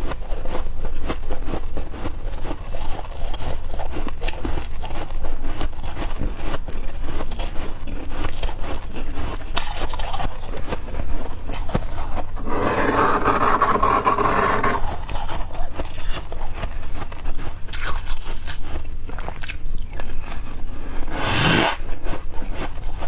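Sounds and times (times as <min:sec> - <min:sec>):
spoon scraping crunchy frost: 0:00.0 - 0:23.0.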